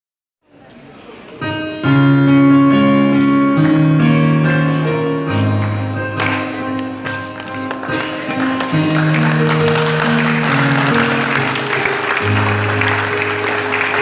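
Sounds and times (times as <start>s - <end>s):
electronic keyboard chords: 1.4s - 14.0s.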